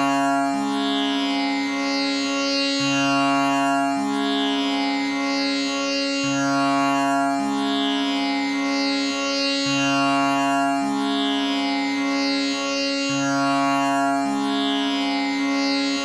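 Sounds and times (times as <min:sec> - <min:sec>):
tanpura drone: 0:00.0 - 0:16.0.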